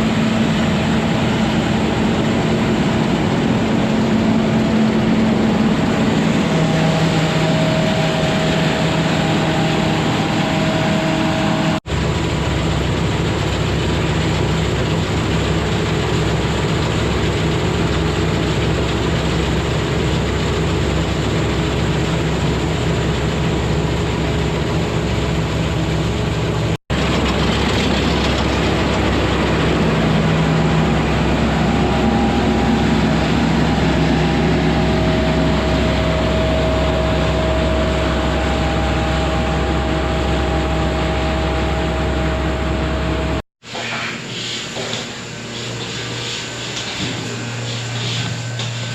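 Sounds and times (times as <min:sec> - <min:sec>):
combine harvester engine hum: 0:00.0 - 0:43.4, 0:44.2 - 0:48.9
machinery rushing: 0:00.0 - 0:48.9.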